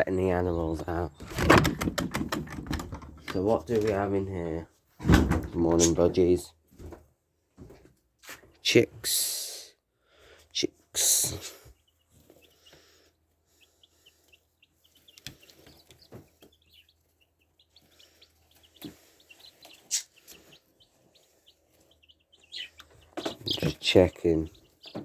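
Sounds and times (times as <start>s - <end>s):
baby chicks peeping: 0.0s - 25.0s.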